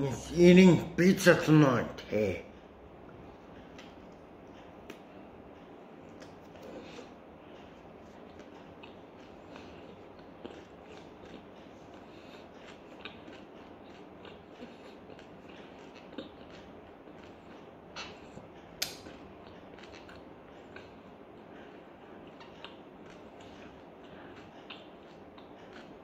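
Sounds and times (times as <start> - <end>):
person chewing food: 3.0 - 26.0.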